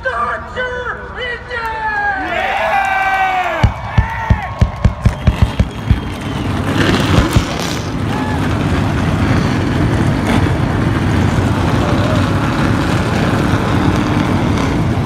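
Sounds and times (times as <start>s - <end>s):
race car engines rumbling: 0.0s - 15.0s.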